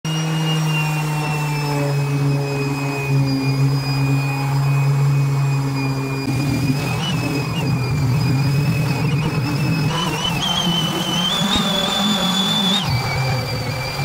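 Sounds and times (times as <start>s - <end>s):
orbital sander running: 0.1s - 14.0s.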